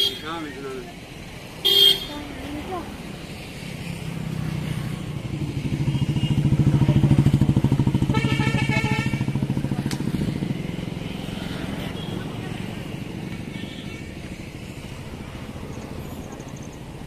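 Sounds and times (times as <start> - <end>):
motorcycle passing: 0.0 - 17.0.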